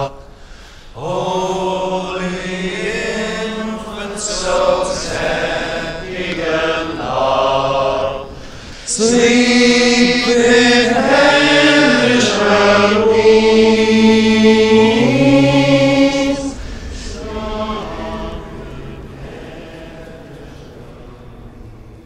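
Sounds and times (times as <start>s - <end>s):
men singing a slow carol: 0.0s - 22.0s.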